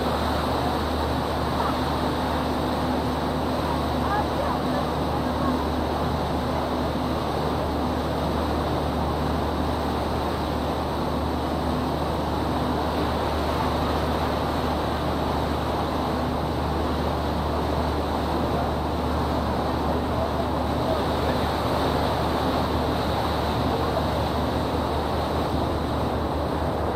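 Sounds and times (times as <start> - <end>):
boat engine droning: 0.0 - 26.9.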